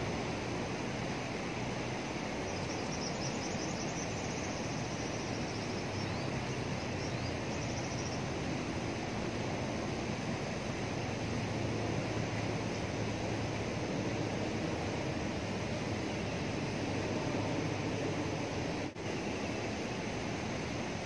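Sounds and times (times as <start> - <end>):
fast water rushing through channel: 0.0 - 21.0.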